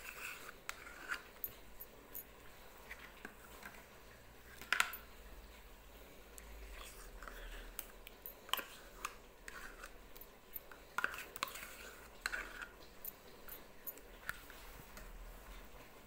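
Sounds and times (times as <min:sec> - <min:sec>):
spoon scraping yogurt in bowl: 0:00.0 - 0:05.2, 0:06.6 - 0:15.8.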